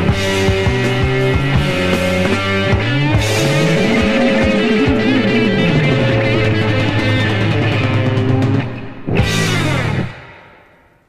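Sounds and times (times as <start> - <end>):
rock band playing: 0.0 - 10.7.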